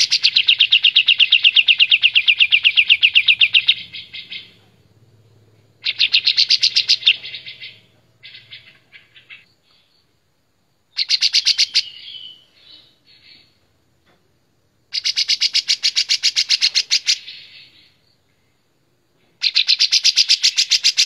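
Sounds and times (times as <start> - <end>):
bulbul singing: 0.0 - 10.1, 10.9 - 13.6, 14.9 - 18.3, 19.4 - 21.0.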